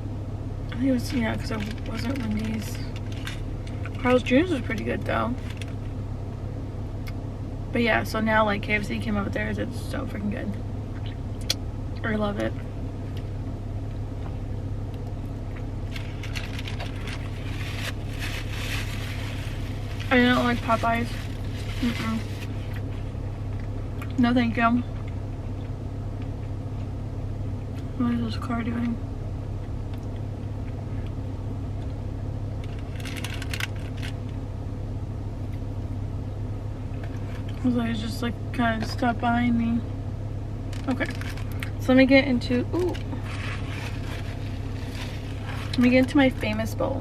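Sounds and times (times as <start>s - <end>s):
car engine idling: 0.0s - 27.8s, 29.1s - 47.0s.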